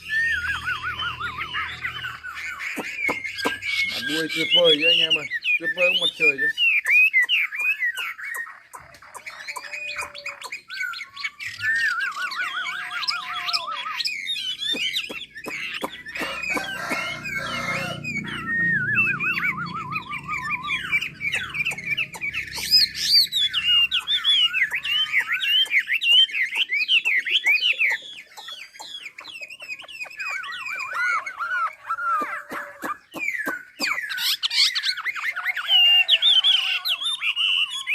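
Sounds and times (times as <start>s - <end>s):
songbird singing: 0.0s - 37.9s.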